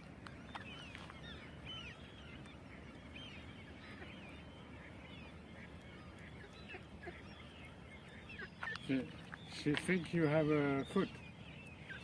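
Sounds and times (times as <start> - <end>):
flock of waterbirds calling: 0.0 - 12.0.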